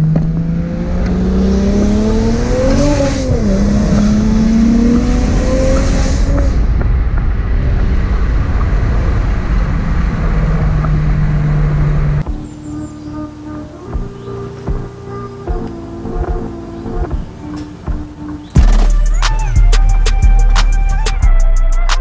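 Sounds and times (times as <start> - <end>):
car engine accelerating: 0.0 - 21.2.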